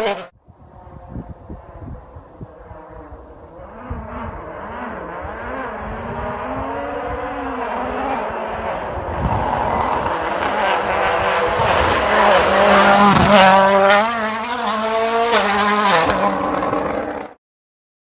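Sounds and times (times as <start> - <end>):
rally car engine revving: 0.0 - 17.4.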